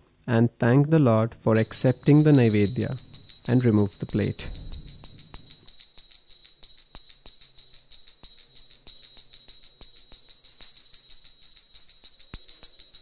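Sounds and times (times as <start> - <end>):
small hand bell ringing: 1.6 - 13.0.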